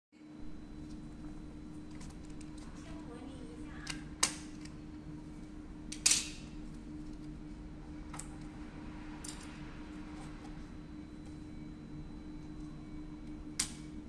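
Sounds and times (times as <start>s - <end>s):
low steady hum: 0.2s - 14.0s.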